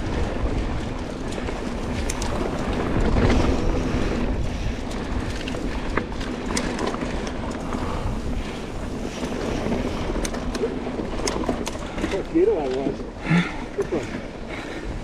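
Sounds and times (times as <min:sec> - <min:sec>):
bike rattling over bumps: 0:00.0 - 0:15.0
tyres rolling on dirt: 0:00.0 - 0:15.0
wind rushing over microphone: 0:00.0 - 0:15.0.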